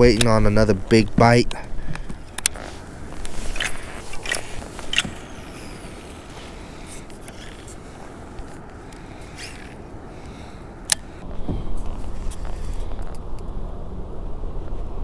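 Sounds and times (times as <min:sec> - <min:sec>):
water noise: 0:00.0 - 0:14.4
wind noise on microphone: 0:00.0 - 0:15.0.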